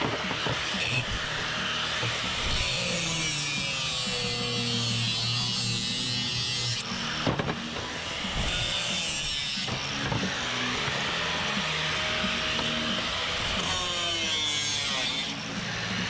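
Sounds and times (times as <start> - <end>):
power saw cutting metal: 0.0 - 16.0.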